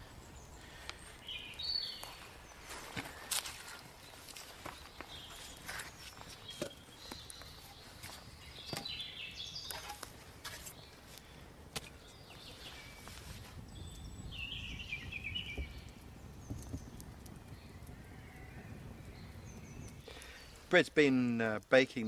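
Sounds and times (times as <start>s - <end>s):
birds singing: 0.0s - 20.8s
wood fire crackling: 0.0s - 22.0s.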